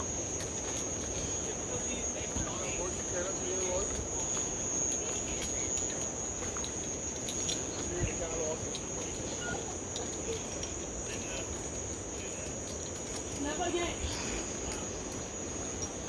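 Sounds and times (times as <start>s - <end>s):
faint voices: 0.0s - 16.0s
insects droning: 0.0s - 16.0s.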